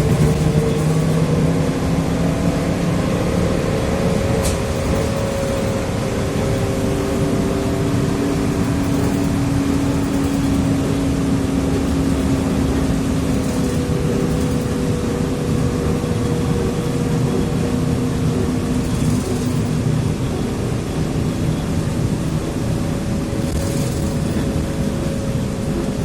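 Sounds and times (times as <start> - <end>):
road and body rumble: 0.0 - 26.0
traction motor whine: 0.0 - 26.0.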